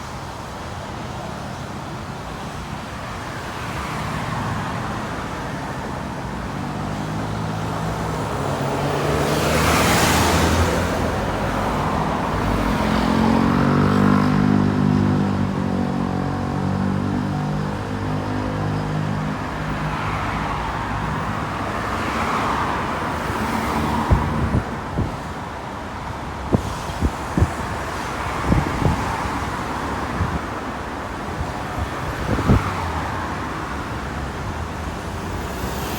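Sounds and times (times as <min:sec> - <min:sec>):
cars passing with tyre noise: 0:00.0 - 0:35.9.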